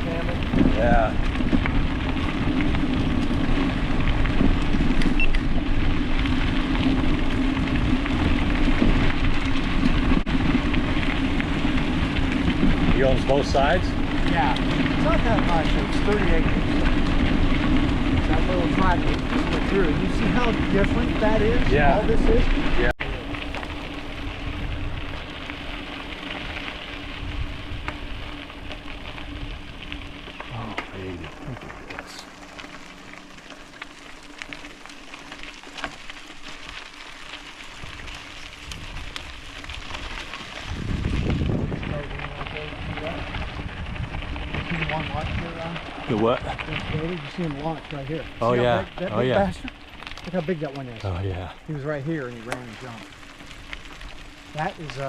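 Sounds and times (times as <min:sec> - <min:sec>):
wind rumble on microphone: 0:00.0 - 0:32.3, 0:37.5 - 0:50.2
low electric motor hum: 0:00.0 - 0:50.7, 0:51.4 - 0:55.0
crackling tyre noise on trail: 0:00.0 - 0:55.0.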